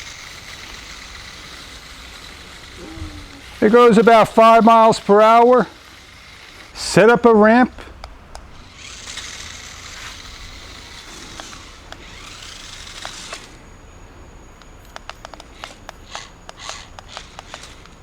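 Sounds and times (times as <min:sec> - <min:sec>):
toy motor high whine: 0:00.0 - 0:13.9, 0:14.5 - 0:18.0.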